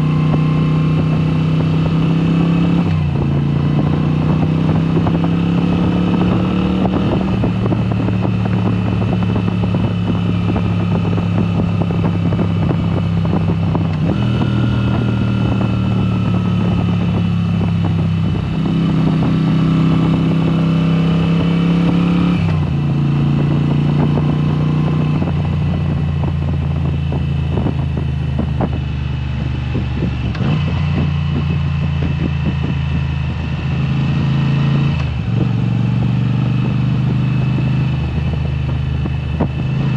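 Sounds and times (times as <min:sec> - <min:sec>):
motorcycle engine riding along: 0:00.0 - 0:39.9.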